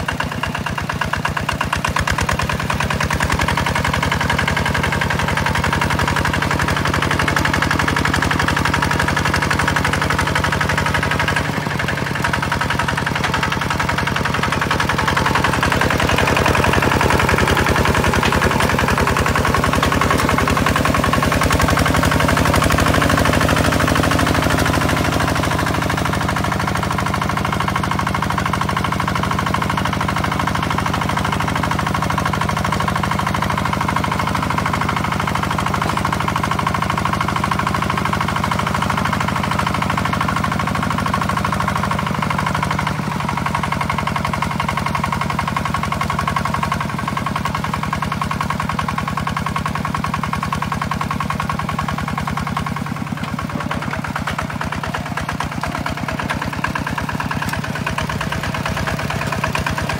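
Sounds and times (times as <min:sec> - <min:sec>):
diesel tractor engine knocking: 0:00.0 - 0:59.9.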